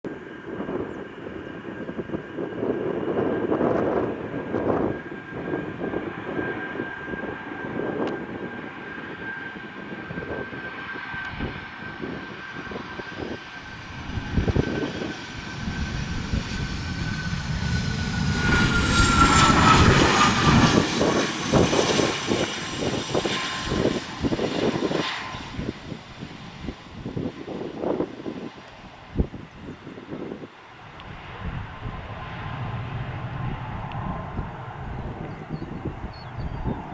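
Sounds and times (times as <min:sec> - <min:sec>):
jet engines whining: 0:00.1 - 0:36.9
wind buffeting microphone: 0:00.1 - 0:36.9.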